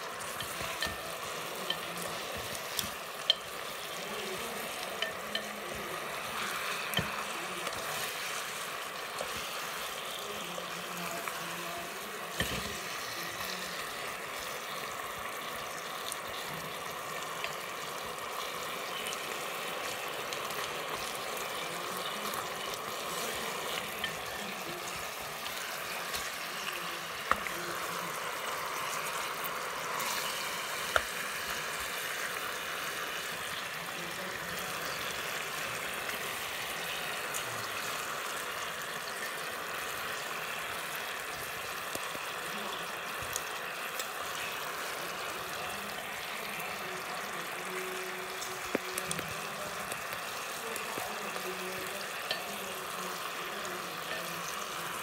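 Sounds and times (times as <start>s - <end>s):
pork sizzling in bubbling sauce: 0.0s - 55.0s.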